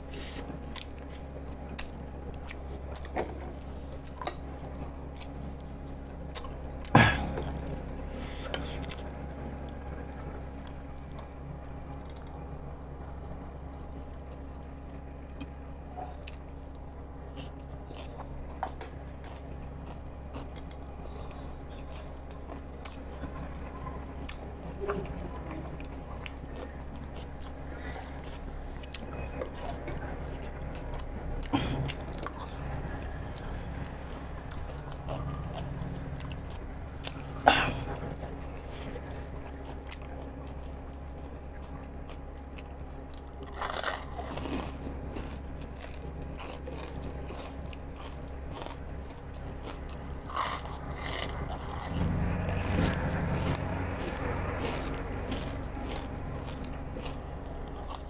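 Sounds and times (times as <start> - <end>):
low hum: 0.0 - 58.0
person chewing food: 0.0 - 58.0.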